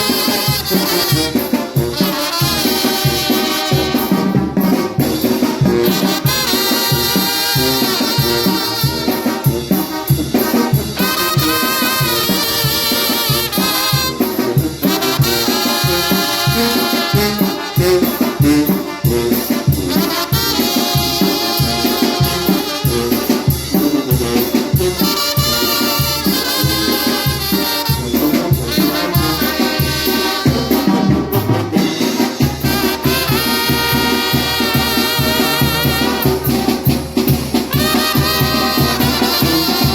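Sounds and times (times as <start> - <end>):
salsa bass and percussion rhythm: 0.0 - 39.9
trumpet playing latin melody: 0.0 - 39.9.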